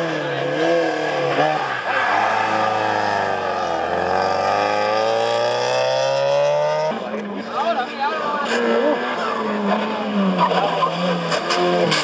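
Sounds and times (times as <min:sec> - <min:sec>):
race car engine revving: 0:00.0 - 0:07.2, 0:08.4 - 0:12.0.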